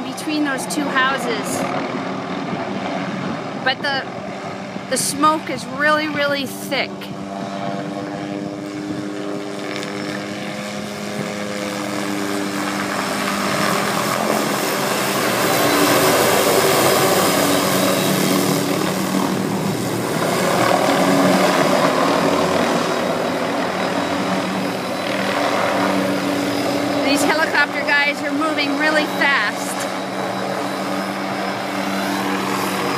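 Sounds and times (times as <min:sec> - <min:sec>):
broad rushing noise: 0:00.0 - 0:32.9
helicopter flying overhead: 0:00.0 - 0:32.9.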